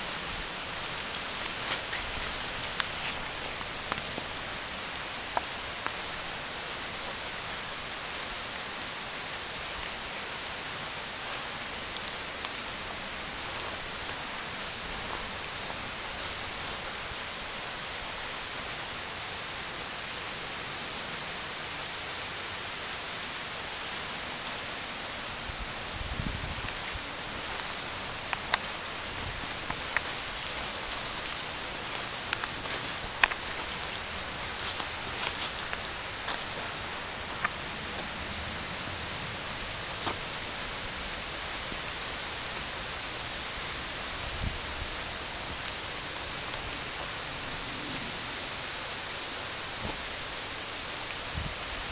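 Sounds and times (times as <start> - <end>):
hiss of rushing water: 0.0 - 51.9
rain falling on grass: 0.0 - 51.9.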